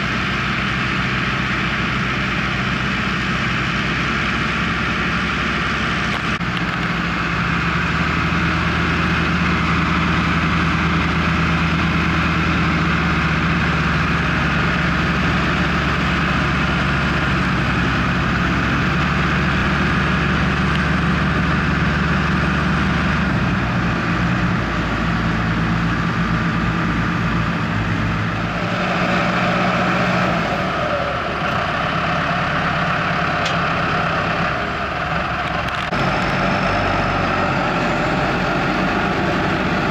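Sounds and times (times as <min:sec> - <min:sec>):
harvester machinery: 0:00.0 - 0:39.9
tractor diesel engine running: 0:00.0 - 0:39.9.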